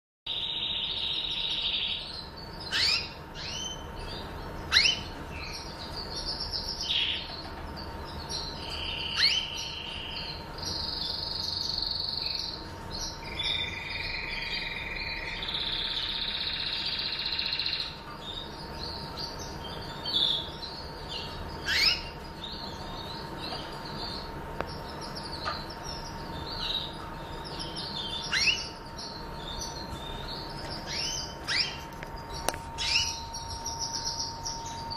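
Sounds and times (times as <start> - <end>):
canaries buzzing trills: 0.3 - 34.9.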